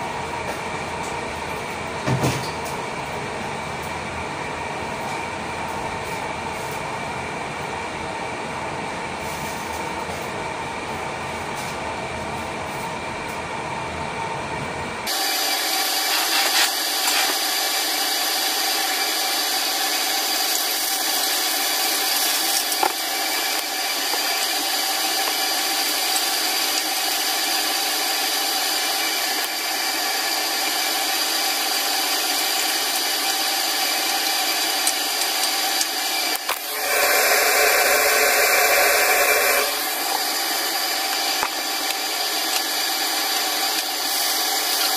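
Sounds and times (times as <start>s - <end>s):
range hood fan whirring: 0.0s - 44.9s.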